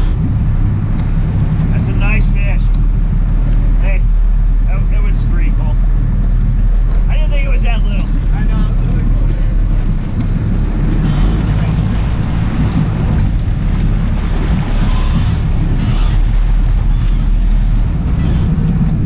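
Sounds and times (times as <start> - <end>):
boat engines running: 0.0 - 19.0
water rushing and splashing: 0.0 - 19.0
wind buffeting microphone: 0.0 - 19.0.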